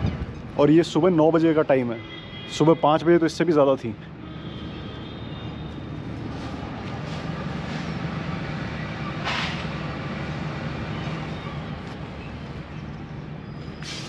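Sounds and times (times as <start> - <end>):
distant road traffic hum: 0.0 - 14.0.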